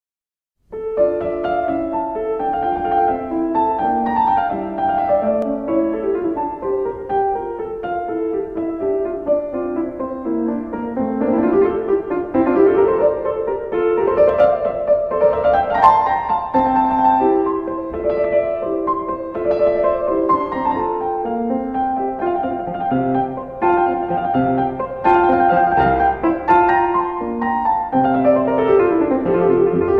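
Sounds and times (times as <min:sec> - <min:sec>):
piano music: 0:00.6 - 0:29.9.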